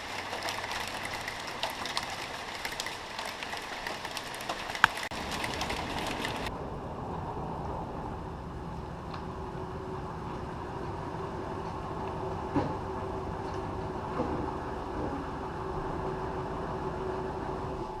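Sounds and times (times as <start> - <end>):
rain rushing: 0.0 - 18.0.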